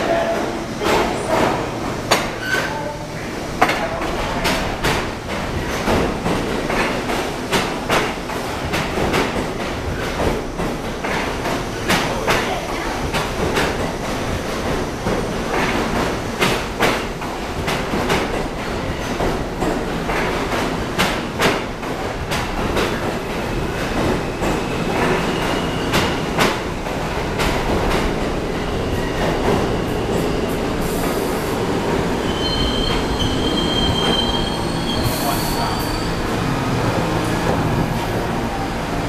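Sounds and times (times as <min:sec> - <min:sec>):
subway train rumbling: 0:00.0 - 0:39.0.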